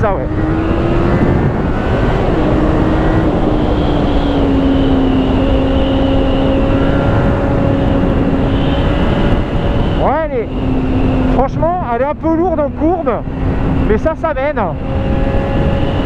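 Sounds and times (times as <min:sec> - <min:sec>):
motorcycle engine running: 0:00.0 - 0:16.0
wind rumble on microphone: 0:00.0 - 0:16.0.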